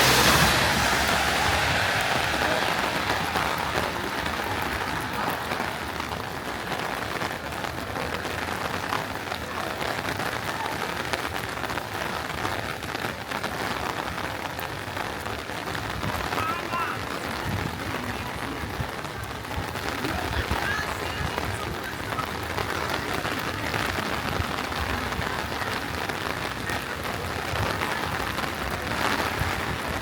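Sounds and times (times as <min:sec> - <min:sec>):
heavy rain on street: 0:00.0 - 0:30.0.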